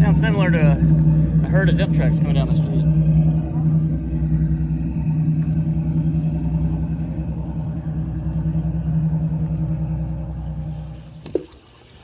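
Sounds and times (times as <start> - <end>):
diesel engines rumbling: 0.0 - 12.0.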